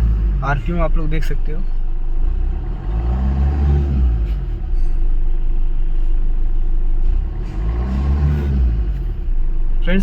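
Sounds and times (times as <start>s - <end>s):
diesel car engine idling: 0.0s - 7.8s, 8.7s - 10.0s.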